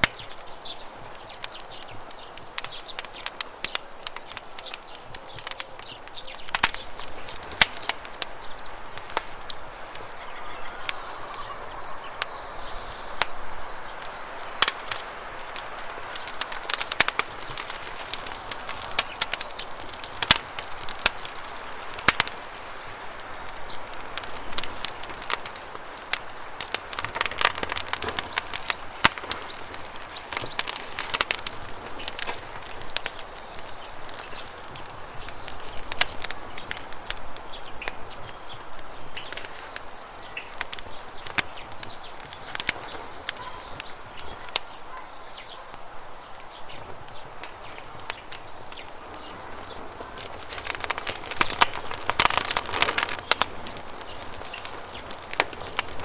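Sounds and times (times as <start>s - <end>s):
bird chirping: 0.0s - 24.9s, 27.2s - 55.9s
campfire crackling and popping: 0.0s - 56.0s.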